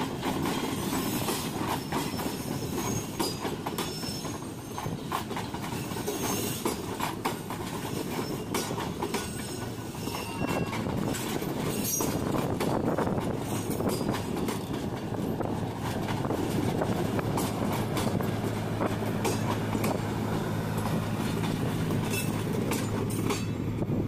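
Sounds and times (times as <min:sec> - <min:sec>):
train wheels clacking on rails: 0:00.0 - 0:24.0.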